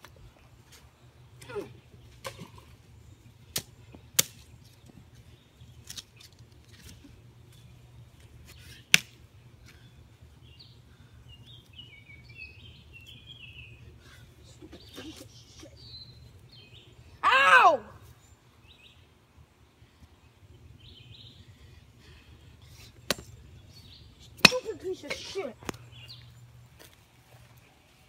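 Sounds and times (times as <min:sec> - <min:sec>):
birds chirping: 0:00.2 - 0:28.0.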